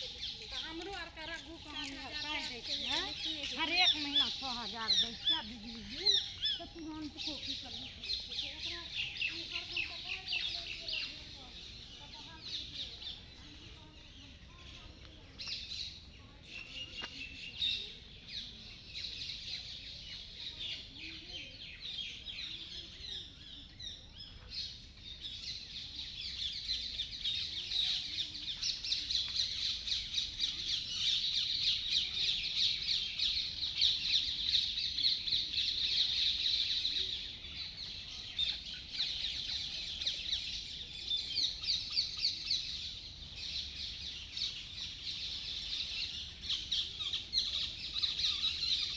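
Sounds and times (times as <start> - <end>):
birds chirping in chorus: 0.0 - 48.9.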